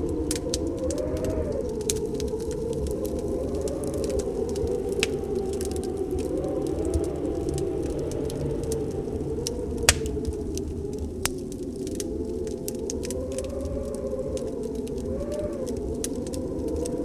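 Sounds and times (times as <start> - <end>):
storm wind: 0.0 - 17.0
wood fire crackling and popping: 0.0 - 17.0.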